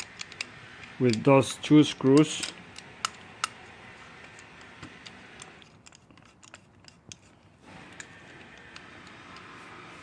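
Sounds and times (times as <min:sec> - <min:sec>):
metal parts clicking and tapping: 0:00.0 - 0:03.6, 0:04.2 - 0:09.5.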